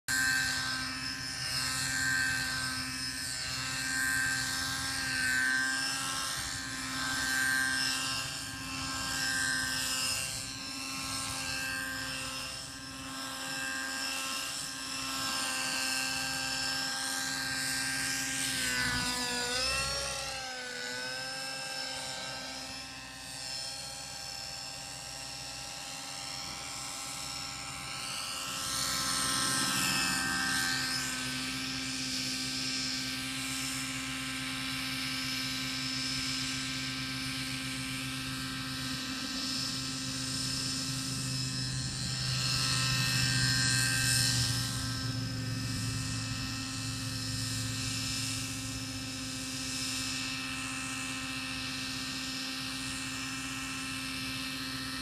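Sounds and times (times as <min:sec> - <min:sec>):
rc helicopter engine whine: 0:00.0 - 0:55.0.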